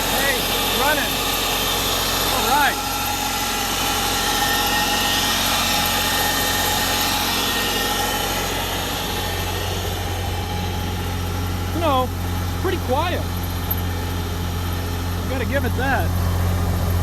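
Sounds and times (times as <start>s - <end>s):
diesel generator droning: 0.0s - 17.0s.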